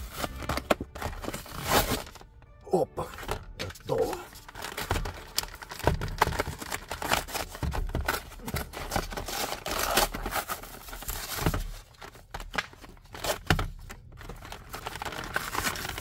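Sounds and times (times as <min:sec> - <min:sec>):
paper packaging tearing and crumpling: 0:00.0 - 0:16.0.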